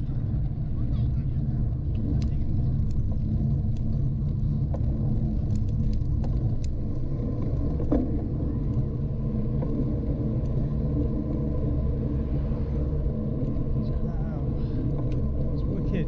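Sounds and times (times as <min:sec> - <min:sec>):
bicycle tyre noise: 0:00.0 - 0:16.0
wind rumble on microphone: 0:00.0 - 0:16.0.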